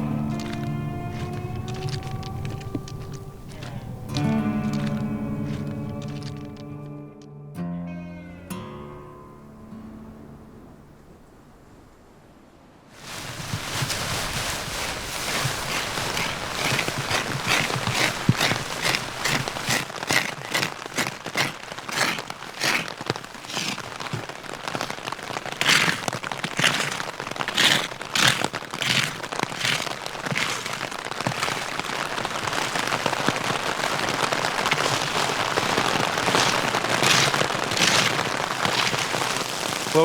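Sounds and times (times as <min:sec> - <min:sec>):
rain hissing: 0:00.0 - 0:06.8, 0:13.0 - 0:40.0
crunching footsteps: 0:00.0 - 0:06.9, 0:13.0 - 0:40.0.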